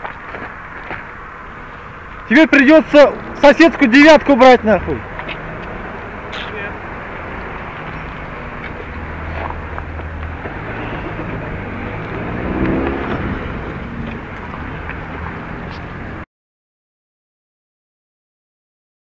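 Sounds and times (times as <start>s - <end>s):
car engine hum: 0.0s - 16.2s
road noise: 0.0s - 16.3s.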